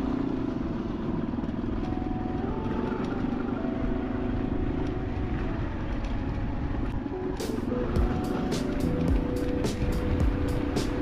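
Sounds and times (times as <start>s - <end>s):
motorcycle engine running: 0.0s - 11.0s
wind rumble on microphone: 0.4s - 11.0s.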